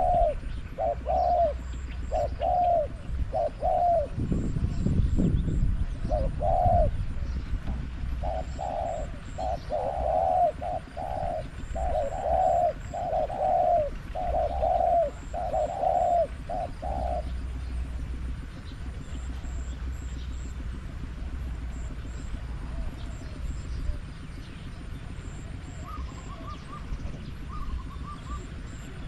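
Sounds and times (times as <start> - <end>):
dove cooing: 0.0 - 5.0, 5.6 - 29.0.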